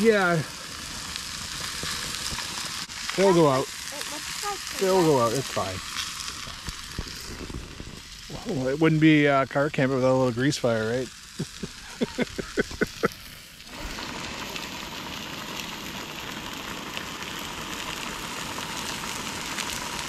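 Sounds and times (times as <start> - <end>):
sausages sizzling in a pan: 0.0 - 20.0.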